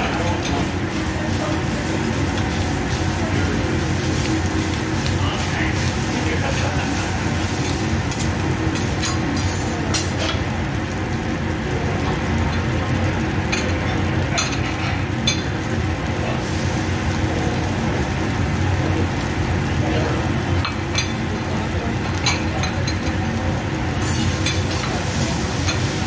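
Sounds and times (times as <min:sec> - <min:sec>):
rice sizzling on a griddle: 0:00.0 - 0:26.0.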